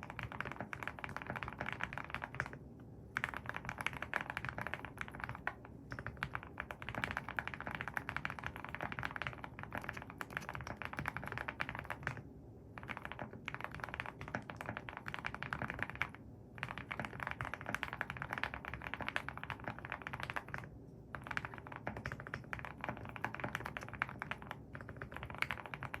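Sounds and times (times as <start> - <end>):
fast typing on mechanical keyboard: 0.0 - 26.0.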